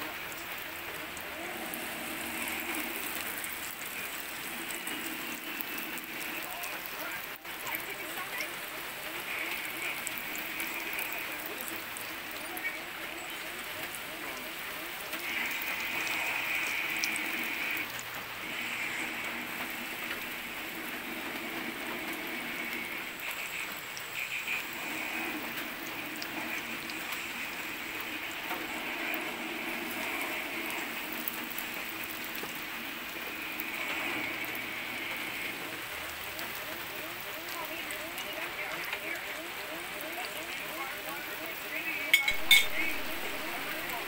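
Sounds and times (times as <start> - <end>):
bread rolls sizzling in oil: 0.0 - 44.0.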